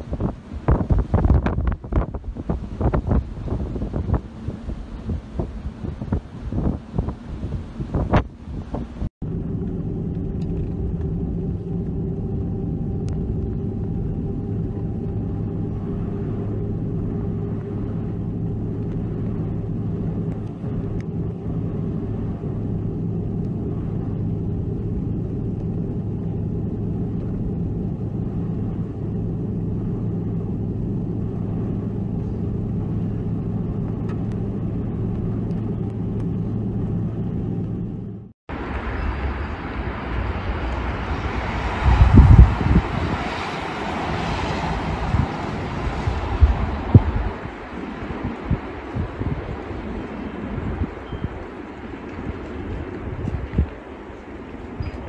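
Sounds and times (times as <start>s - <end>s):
wind on microphone: 0.0s - 37.4s, 38.5s - 55.0s
car engine and tyres on snow: 0.0s - 55.0s.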